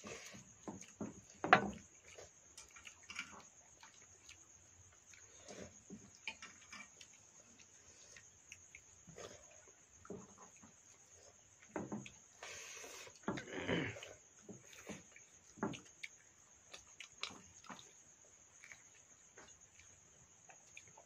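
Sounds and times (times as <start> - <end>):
chewing and lip smacking: 0.0 - 21.0
cricket trill: 0.0 - 21.0.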